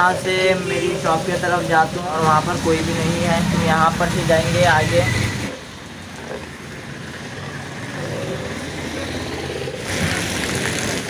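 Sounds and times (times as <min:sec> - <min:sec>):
tyres hissing on wet road: 0:00.0 - 0:11.0.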